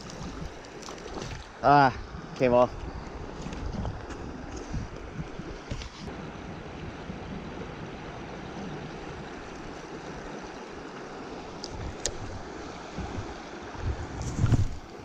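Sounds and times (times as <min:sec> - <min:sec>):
stream water running over rocks: 0:00.0 - 0:06.2, 0:07.6 - 0:15.0.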